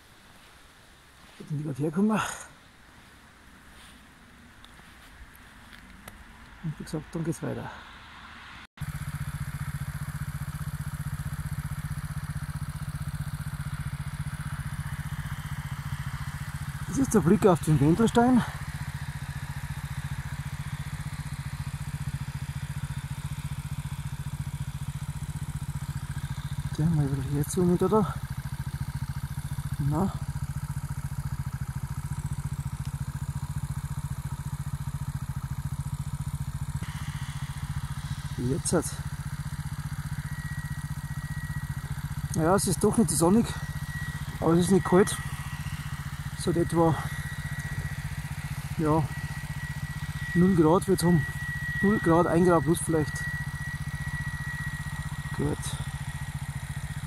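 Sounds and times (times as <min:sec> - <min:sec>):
motorcycle engine idling: 0:08.8 - 0:57.0.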